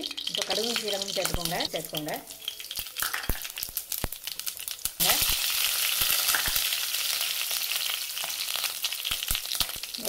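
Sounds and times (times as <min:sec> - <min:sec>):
seeds sizzling in hot oil: 0:00.0 - 0:10.0.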